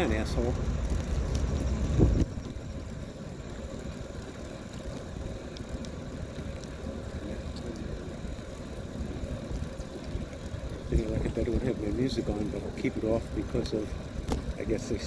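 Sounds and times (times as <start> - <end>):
bicycle tyres rolling on path: 0.0 - 15.0
wind rumble on microphone: 0.0 - 15.0.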